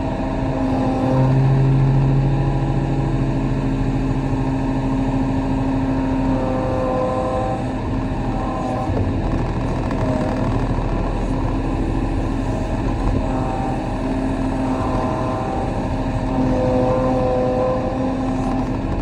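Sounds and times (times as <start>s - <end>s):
excavator diesel engine running: 0.0s - 19.0s
hydraulic whining: 0.0s - 19.0s.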